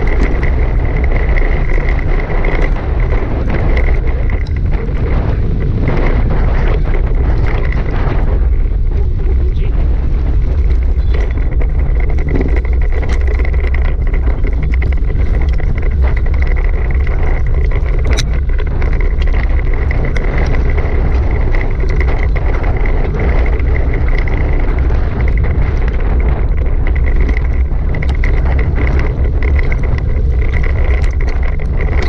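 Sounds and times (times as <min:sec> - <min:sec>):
grit clicks: 0:00.0 - 0:32.0
tyres rolling on dirt: 0:00.0 - 0:32.0
wind buffeting microphone: 0:00.0 - 0:32.0.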